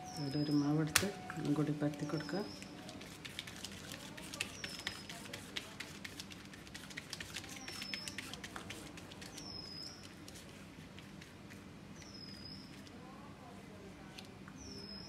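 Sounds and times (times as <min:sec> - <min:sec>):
fingers patting dough on leaf: 0:00.8 - 0:12.9.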